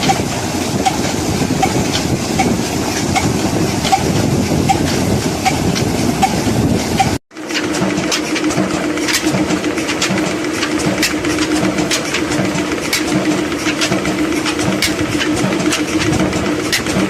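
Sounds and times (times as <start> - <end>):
diesel engine clattering: 0.0 - 17.0
sharp engine clicks: 0.0 - 17.0.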